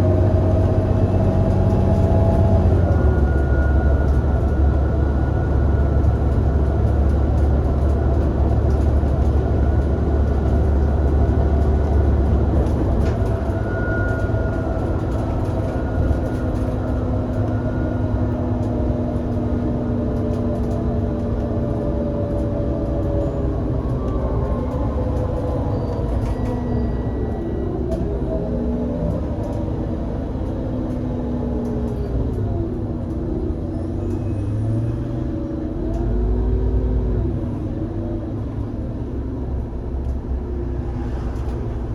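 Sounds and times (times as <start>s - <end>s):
bus engine heavy low drone: 0.0s - 41.9s
bus steady whine: 0.0s - 41.9s.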